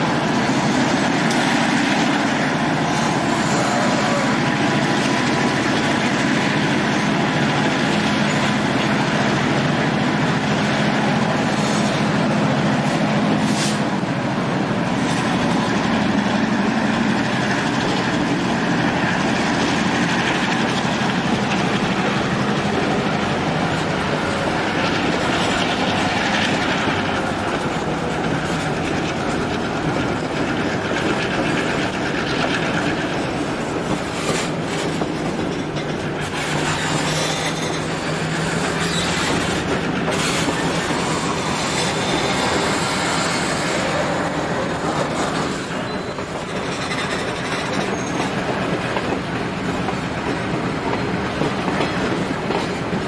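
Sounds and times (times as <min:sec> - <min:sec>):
wheels clacking over rail joints: 0:00.0 - 0:53.0.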